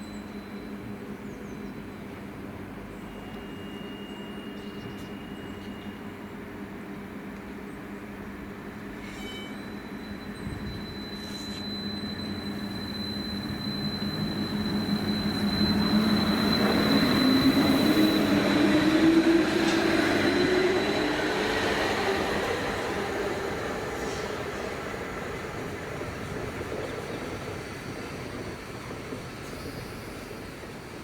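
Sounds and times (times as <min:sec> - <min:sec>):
rail vehicle running past: 0:00.0 - 0:31.0.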